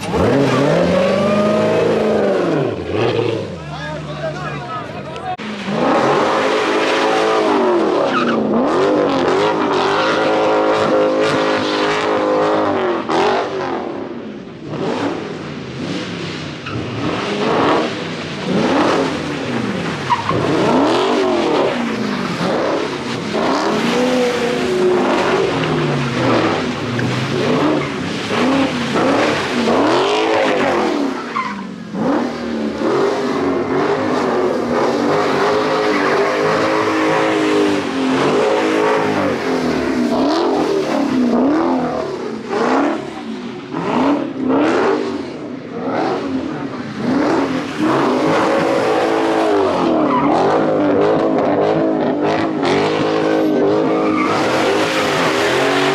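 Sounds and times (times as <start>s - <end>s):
tyres skidding on pavement: 0.0s - 13.3s, 15.8s - 55.9s
car engine revving: 0.0s - 55.9s.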